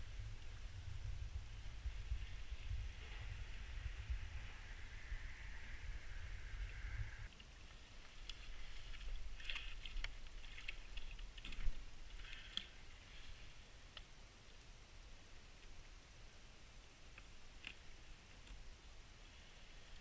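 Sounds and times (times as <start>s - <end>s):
steady hiss with low rumble: 0.0s - 20.0s.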